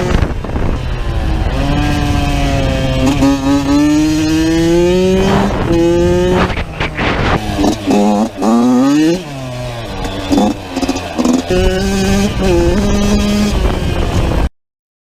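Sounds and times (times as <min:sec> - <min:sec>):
two-stroke engine revving: 0:00.0 - 0:14.5.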